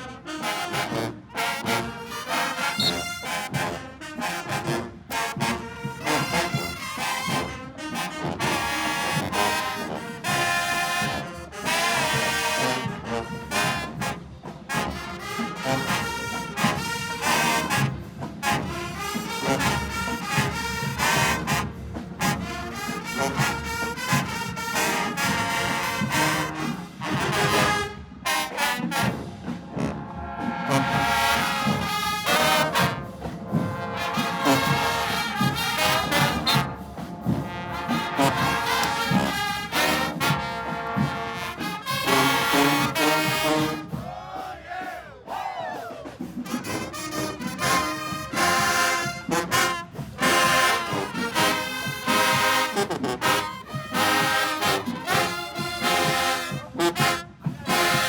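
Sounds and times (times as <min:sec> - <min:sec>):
brass section playing: 0:00.0 - 0:58.0
steady drum beat: 0:00.0 - 0:58.0.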